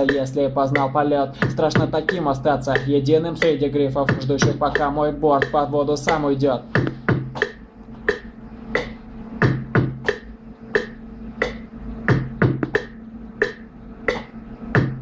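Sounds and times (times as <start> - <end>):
hip-hop beat: 0.0 - 15.0.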